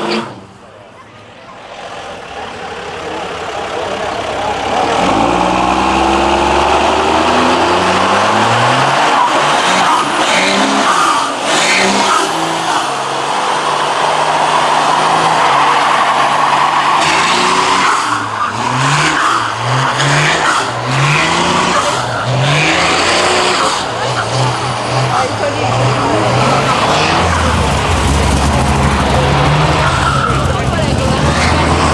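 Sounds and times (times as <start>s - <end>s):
car engine revving hard: 0.0s - 0.7s, 1.6s - 31.9s
tyres squealing: 0.0s - 31.9s.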